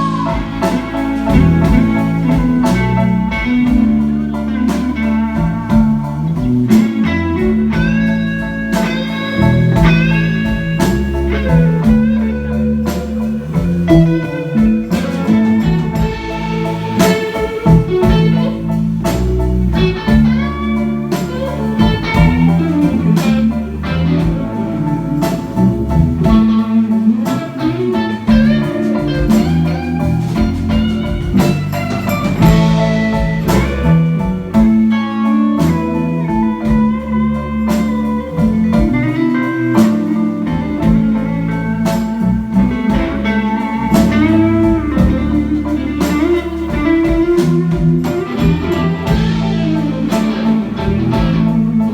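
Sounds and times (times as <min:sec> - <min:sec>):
electric guitar: 0:00.0 - 0:51.9
live band playing blues: 0:00.0 - 0:51.9.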